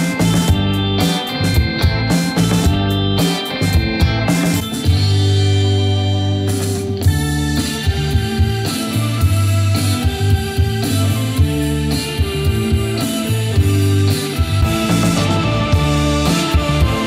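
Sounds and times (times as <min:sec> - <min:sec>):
guitar music through speakers: 0:00.0 - 0:17.0.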